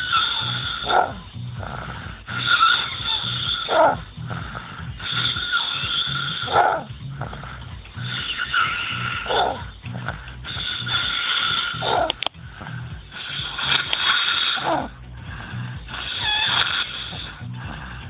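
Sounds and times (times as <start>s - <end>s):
man snoring: 0.0s - 18.0s.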